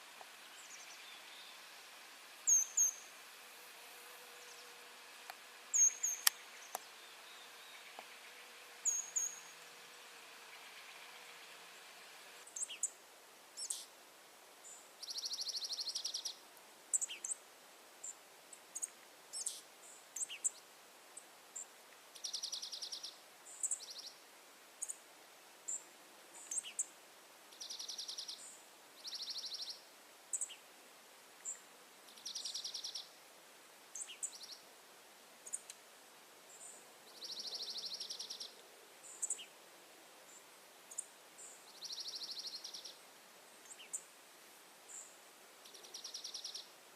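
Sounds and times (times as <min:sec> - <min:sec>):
faint background hiss: 0:00.0 - 0:46.9.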